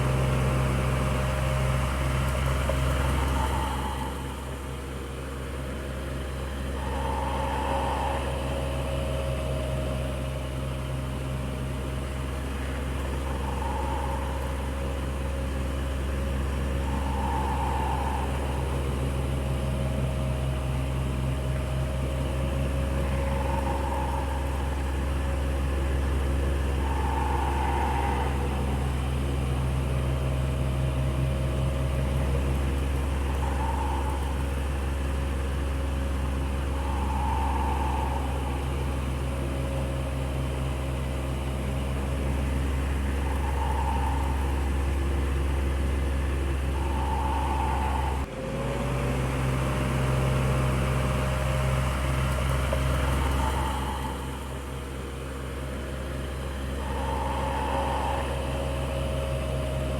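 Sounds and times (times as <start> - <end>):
electric fan running: 0.0 - 48.3, 56.1 - 59.9.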